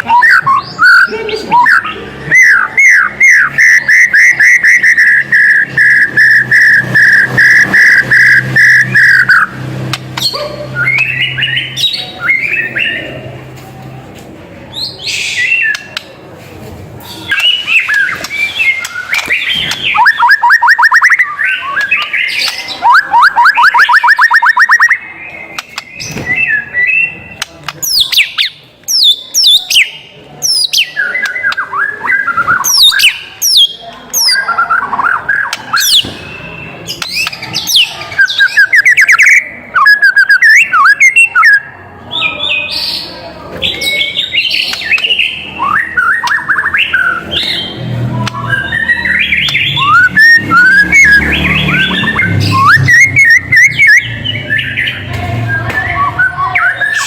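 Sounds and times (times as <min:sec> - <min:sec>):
bird singing whistled phrases: 0:00.0 - 0:09.6, 0:10.2 - 0:13.2, 0:17.0 - 0:57.0.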